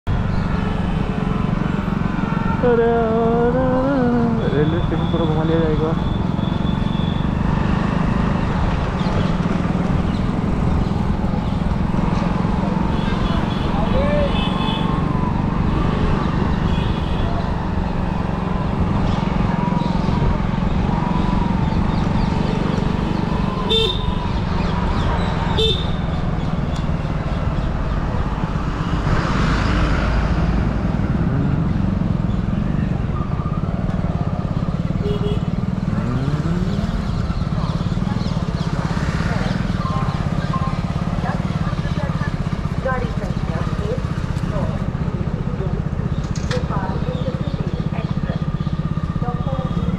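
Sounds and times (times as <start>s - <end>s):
road and wind noise: 0.0s - 49.9s
motorbike engine drone: 0.1s - 49.9s.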